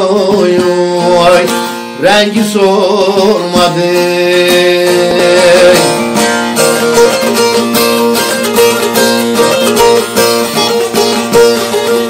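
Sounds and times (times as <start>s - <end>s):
long-necked lute plucked and strummed: 0.0s - 12.0s.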